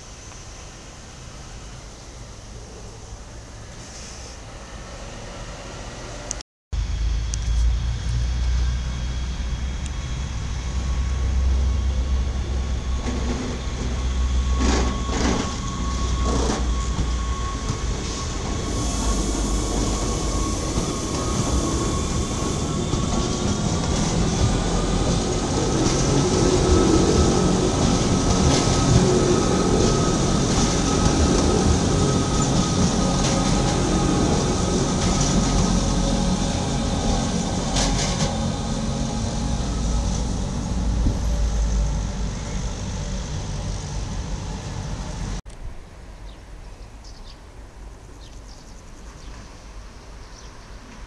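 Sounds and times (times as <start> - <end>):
electric train motor whine: 4.4 - 45.4.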